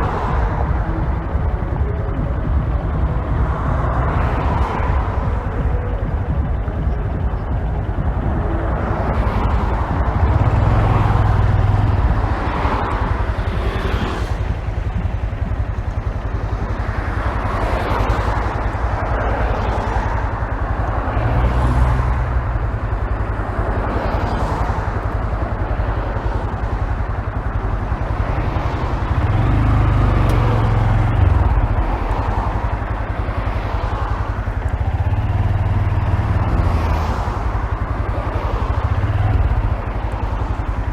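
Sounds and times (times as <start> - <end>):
muffled motorcycle engine running: 0.0 - 40.9.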